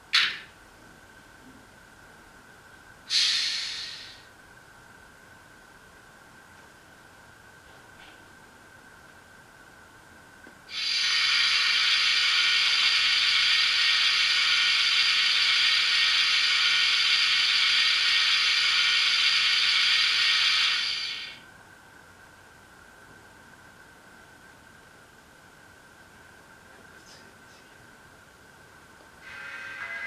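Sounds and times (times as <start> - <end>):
loud steady hiss: 0.0 - 30.0.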